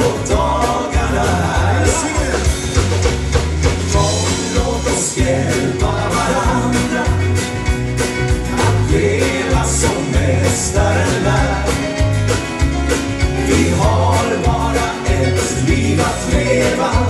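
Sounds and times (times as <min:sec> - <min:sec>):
band playing upbeat gospel song: 0:00.0 - 0:17.0
bass and drums beat: 0:00.0 - 0:17.0.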